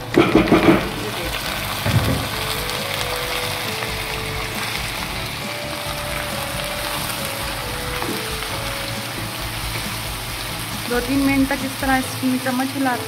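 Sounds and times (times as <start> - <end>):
meat and onions sizzling in pan: 0.0 - 13.0
soft background melody: 0.1 - 13.0.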